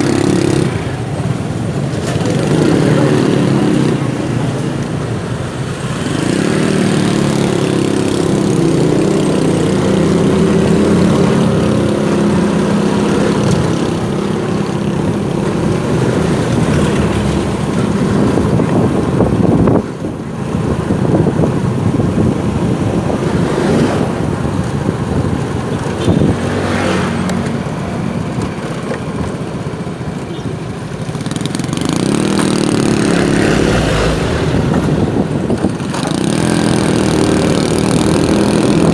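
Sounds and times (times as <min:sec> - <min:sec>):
motorcycle engine accelerating: 0:00.0 - 0:30.0, 0:30.8 - 0:38.9.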